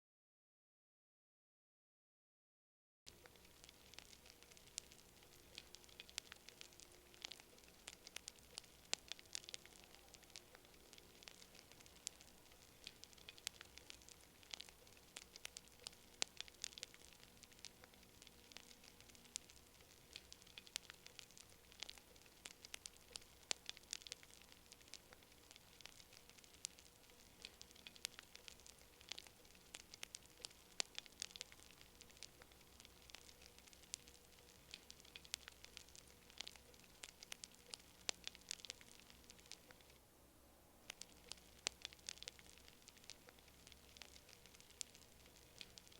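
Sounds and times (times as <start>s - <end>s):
campfire crackling: 3.1s - 40.0s, 40.8s - 45.9s.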